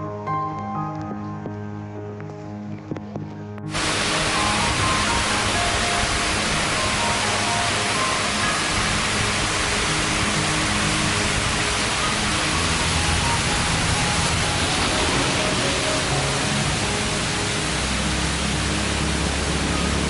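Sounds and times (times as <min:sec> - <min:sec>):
loud steady rushing noise: 0:03.7 - 0:20.0.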